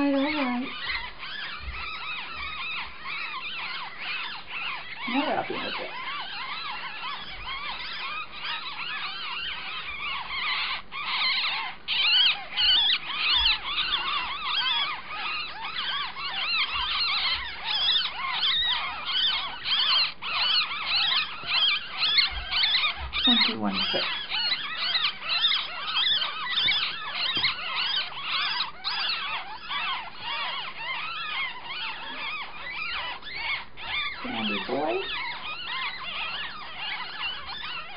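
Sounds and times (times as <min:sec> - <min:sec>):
rat pups squeaking: 0:00.0 - 0:37.9.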